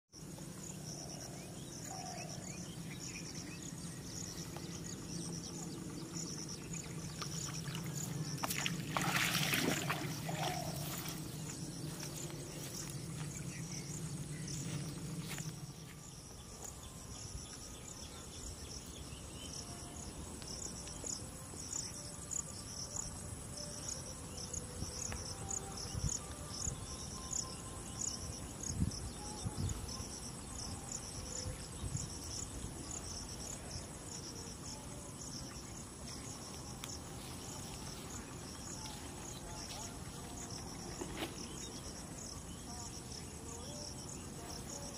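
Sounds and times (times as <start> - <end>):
crickets chirping: 0.1 - 44.9
low outdoor hum: 0.2 - 44.9.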